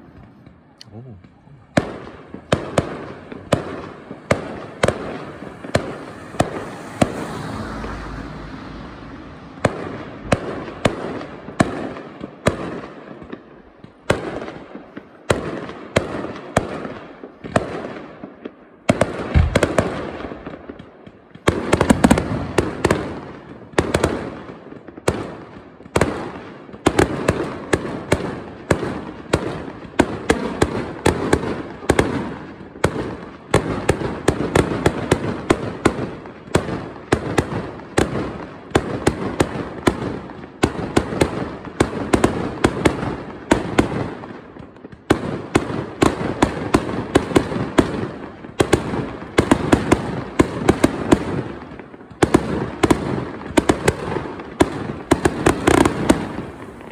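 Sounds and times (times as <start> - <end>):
fireworks bursting with bangs: 0.0 - 56.9.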